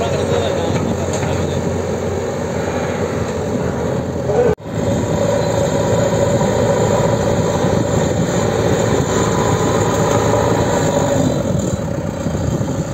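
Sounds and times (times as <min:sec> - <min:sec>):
diesel engine droning under load: 0:00.0 - 0:12.9.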